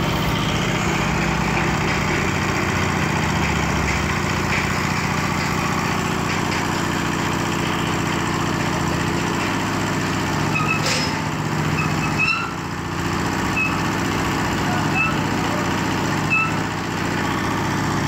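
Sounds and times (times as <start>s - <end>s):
winch engine running: 0.0s - 18.0s.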